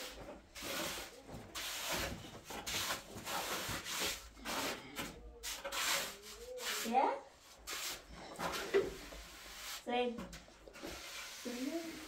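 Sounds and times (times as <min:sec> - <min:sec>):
trowel scraping cement floor: 0:00.0 - 0:12.0.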